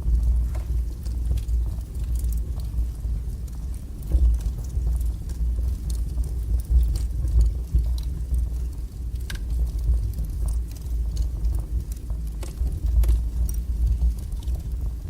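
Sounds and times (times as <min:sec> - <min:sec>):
burning wood crackling and popping: 0:00.0 - 0:15.0
low roar of flames: 0:00.0 - 0:15.0.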